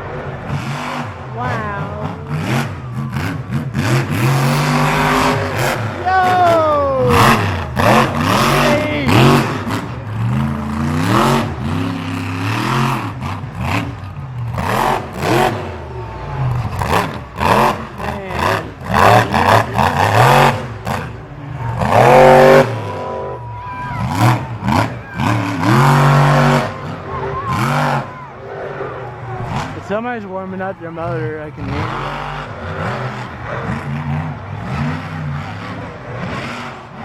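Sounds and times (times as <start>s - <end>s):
truck engine revving hard: 0.0s - 37.0s.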